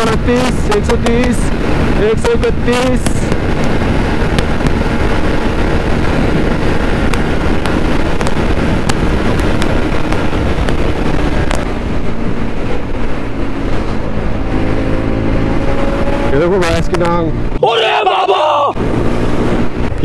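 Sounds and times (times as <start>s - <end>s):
wind rushing over microphone: 0.0s - 17.6s, 18.7s - 20.0s
motorcycle engine hum: 0.0s - 17.8s, 18.4s - 20.0s.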